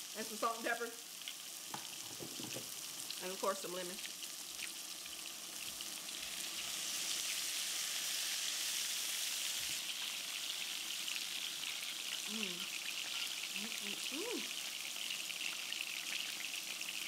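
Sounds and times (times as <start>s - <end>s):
fish sizzling on a grill plate: 0.0s - 17.0s.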